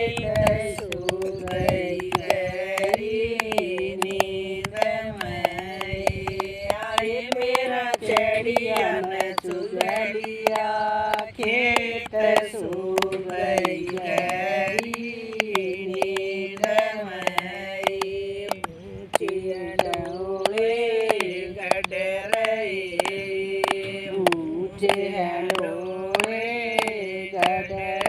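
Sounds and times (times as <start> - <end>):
person singing devotional song: 0.0 - 28.0
sharp rhythmic beats: 0.0 - 28.0.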